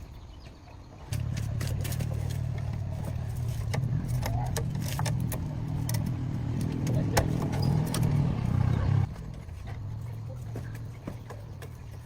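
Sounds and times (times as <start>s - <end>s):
machine rumbling: 1.0s - 12.0s.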